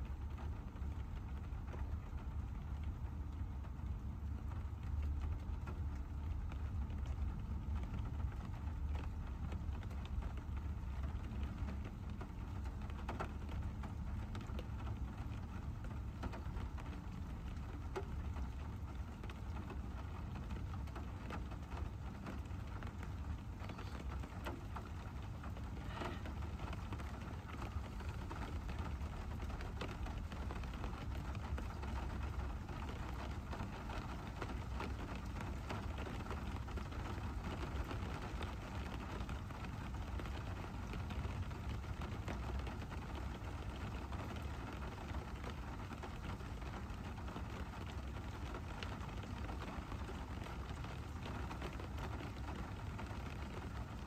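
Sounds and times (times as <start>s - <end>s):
rain on a car: 0.0s - 54.0s.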